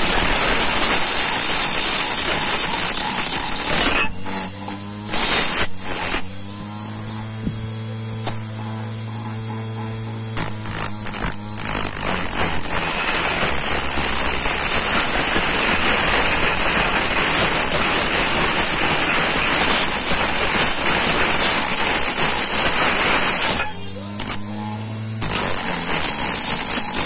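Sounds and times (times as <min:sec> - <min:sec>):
cutter grinding with high whine: 0:00.0 - 0:27.0
motor humming: 0:00.0 - 0:27.0.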